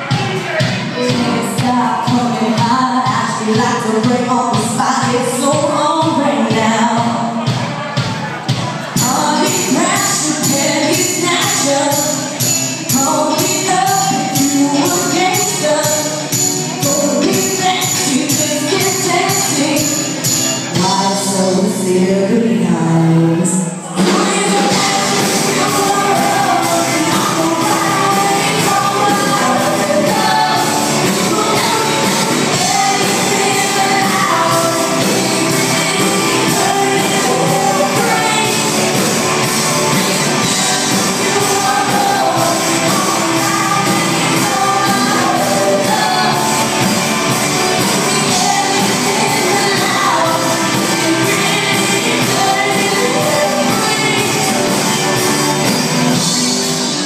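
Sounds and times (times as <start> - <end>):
live pop-rock band: 0.0 - 57.0
woman singing: 1.0 - 7.5, 9.0 - 55.4
electric guitars: 7.4 - 57.0.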